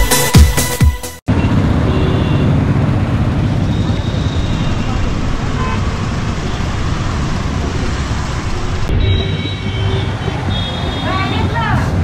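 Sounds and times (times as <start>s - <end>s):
street traffic rumble: 1.3s - 12.0s.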